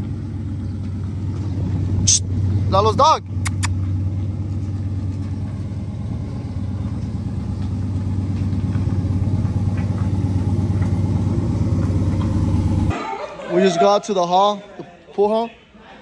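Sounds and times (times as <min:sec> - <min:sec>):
vehicle engine running: 0:00.0 - 0:12.9.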